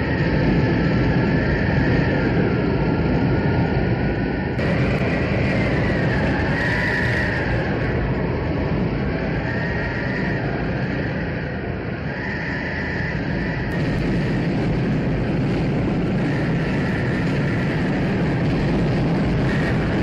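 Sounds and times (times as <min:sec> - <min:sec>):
howling wind roar: 0:00.0 - 0:20.0.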